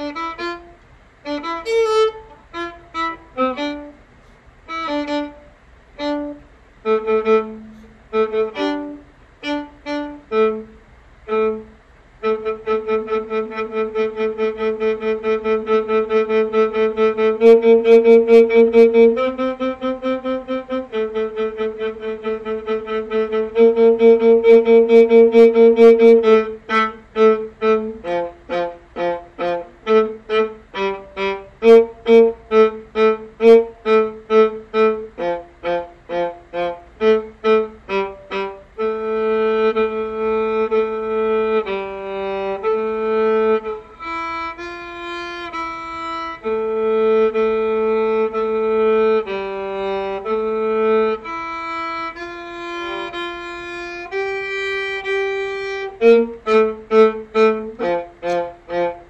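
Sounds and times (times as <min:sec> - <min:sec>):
solo viola playing: 0:00.0 - 0:59.0.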